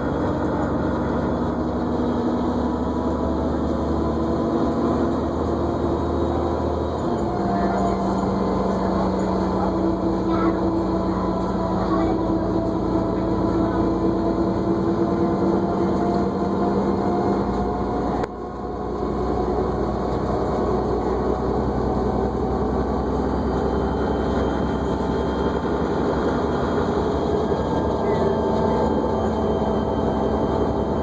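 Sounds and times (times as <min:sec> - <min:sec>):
bus engine drone with whine: 0:00.0 - 0:31.0.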